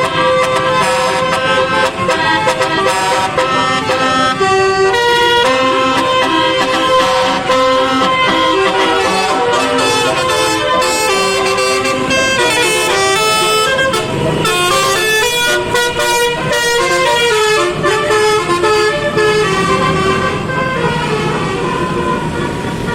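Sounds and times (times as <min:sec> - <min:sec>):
bus horns playing melodies: 0:00.0 - 0:22.9.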